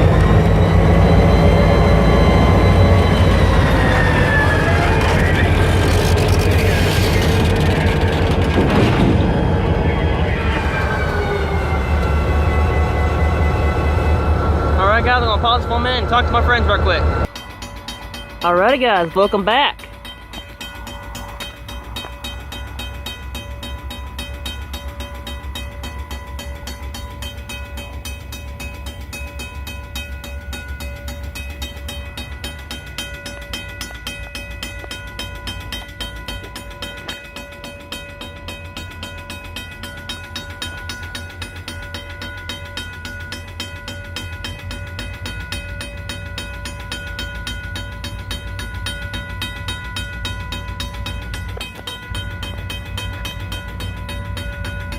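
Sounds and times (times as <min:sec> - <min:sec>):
constant engine whine: 0:00.0 - 0:54.9
diesel locomotive engines rumbling: 0:00.0 - 0:54.9.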